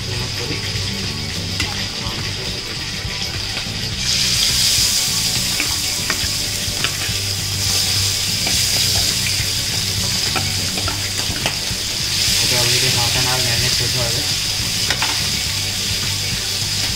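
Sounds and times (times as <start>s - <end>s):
prawns sizzling in oil: 0.0s - 16.9s.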